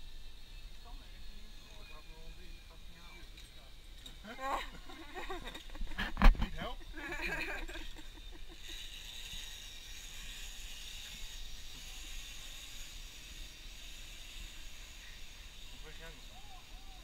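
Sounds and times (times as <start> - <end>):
zipline pulleys whirring on cable: 0.0 - 17.0.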